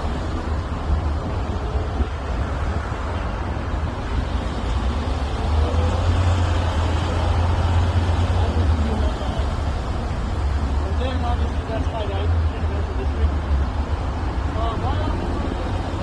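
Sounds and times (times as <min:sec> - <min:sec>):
car engine and road drone: 0:00.0 - 0:16.0.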